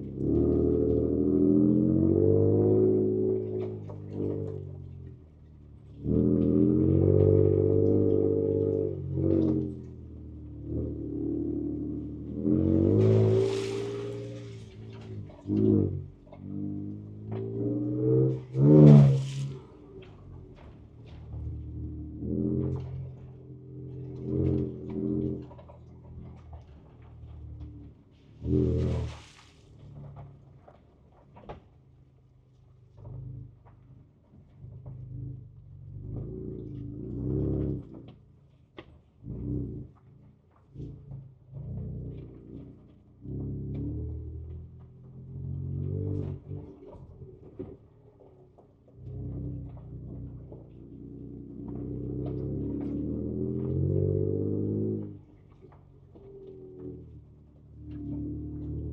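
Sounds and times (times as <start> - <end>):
car engine from inside cab: 0.0 - 30.6, 39.1 - 58.9.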